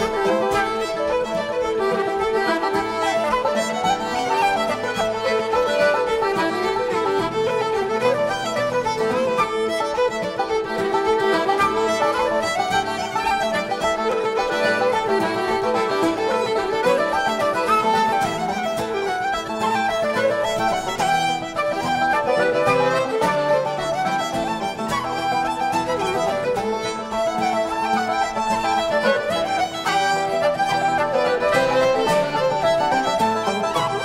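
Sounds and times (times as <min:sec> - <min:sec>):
acoustic guitar: 0:00.0 - 0:34.0
banjo: 0:00.0 - 0:34.0
fiddles playing melody: 0:00.0 - 0:34.0.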